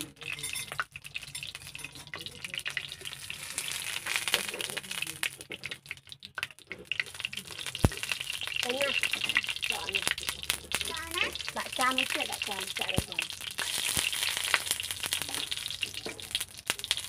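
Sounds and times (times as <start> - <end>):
brush crackles in pan: 0.0 - 17.0
hot oil sizzling: 0.0 - 17.0.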